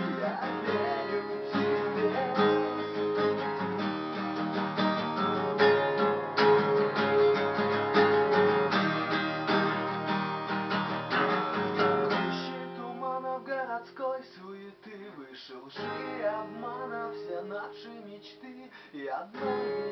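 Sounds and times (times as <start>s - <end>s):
acoustic guitar strumming: 0.0s - 15.1s, 15.8s - 19.9s.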